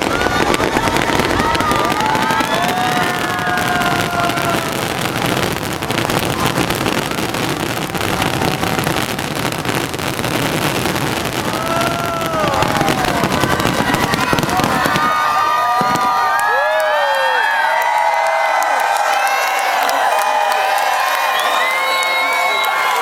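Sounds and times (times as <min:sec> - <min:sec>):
crowd whooping and cheering: 0:00.0 - 0:23.0
fireworks crackling and banging: 0:00.0 - 0:23.0.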